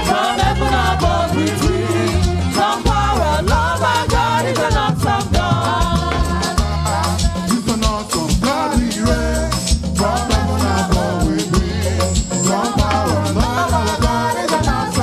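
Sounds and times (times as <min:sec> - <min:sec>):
upbeat dance praise music: 0:00.0 - 0:15.0.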